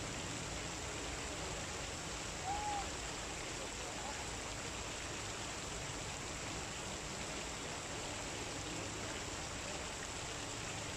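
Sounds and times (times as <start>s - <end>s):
fountain water splashing: 0.0s - 10.9s.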